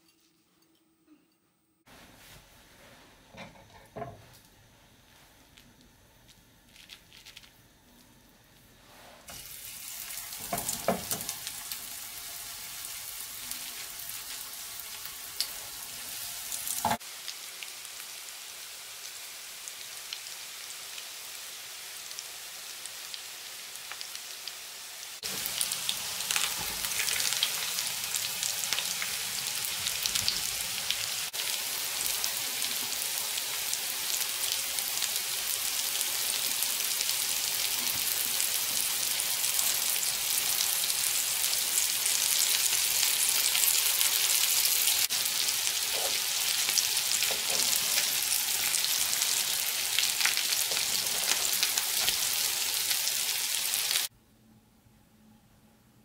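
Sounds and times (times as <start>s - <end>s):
patties sizzling in hot oil: 5.1s - 54.1s.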